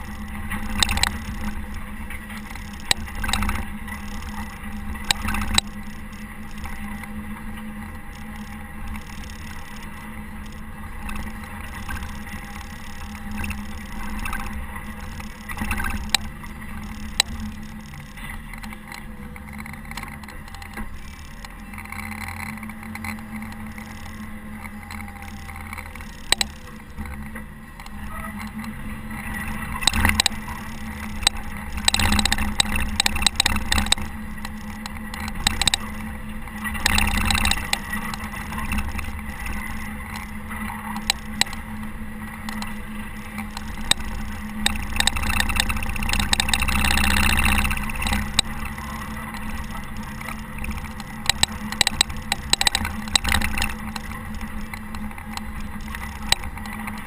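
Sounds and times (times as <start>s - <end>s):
diesel engine running: 0.0s - 57.0s
sharp knocks and clicks: 0.0s - 57.0s.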